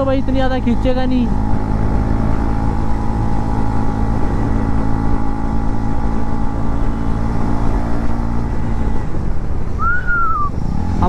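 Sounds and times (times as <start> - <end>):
motorcycle engine cruising: 0.0 - 11.0
wind rumble on microphone: 0.0 - 11.0.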